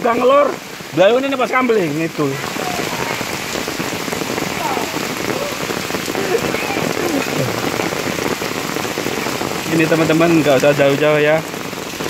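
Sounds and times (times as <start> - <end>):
heavy rain on floodwater: 0.0 - 12.0.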